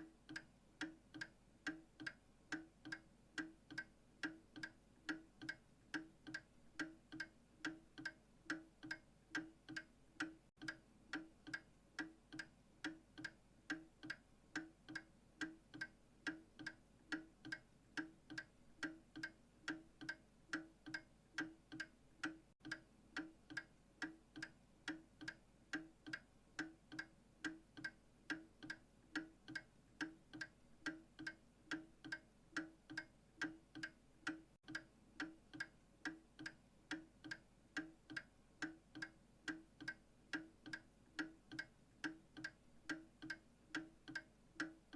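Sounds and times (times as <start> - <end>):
mechanical clock ticking: 0.0 - 44.9.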